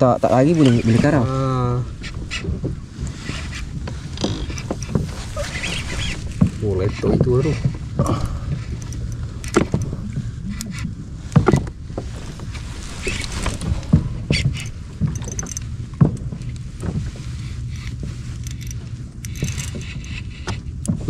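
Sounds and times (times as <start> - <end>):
wind and water against hull: 0.0 - 21.0.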